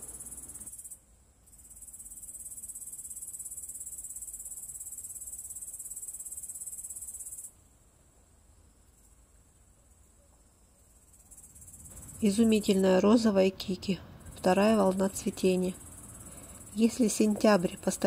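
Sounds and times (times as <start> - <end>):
crickets chirring: 0.0 - 7.6, 8.2 - 18.0.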